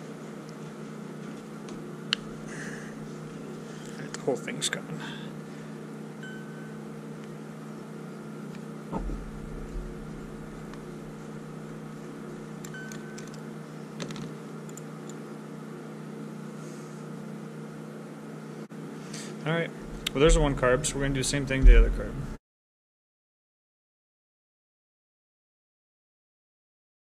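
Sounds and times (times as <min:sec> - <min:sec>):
low machine hum: 0:00.0 - 0:22.4.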